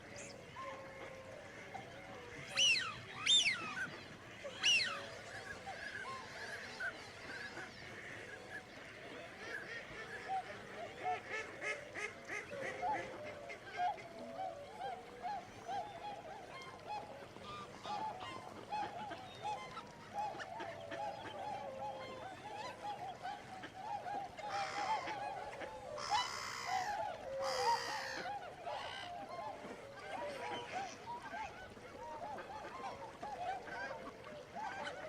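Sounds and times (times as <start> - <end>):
flock of birds calling: 0.0 - 35.0.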